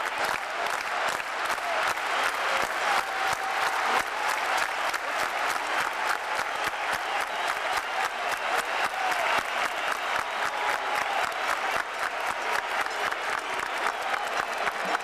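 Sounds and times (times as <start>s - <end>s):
stadium crowd applauding: 0.0s - 15.0s.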